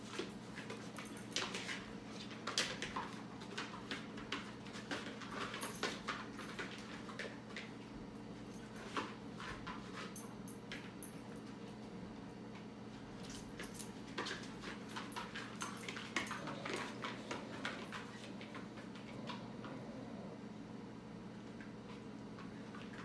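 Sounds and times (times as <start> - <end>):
dogs' claws clicking and tapping: 0.0 - 11.8, 12.5 - 19.4.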